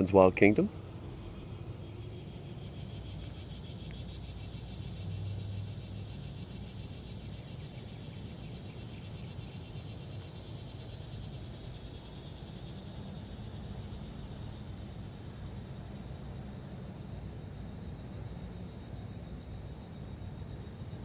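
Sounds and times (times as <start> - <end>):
insects buzzing: 0.0 - 21.0
low steady rumble: 0.0 - 21.0.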